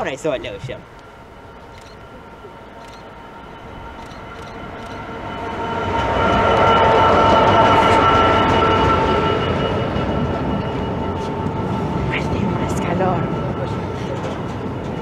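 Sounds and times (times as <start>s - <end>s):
diesel locomotive engine passing: 0.0s - 15.0s
freight train running noise: 0.0s - 15.0s.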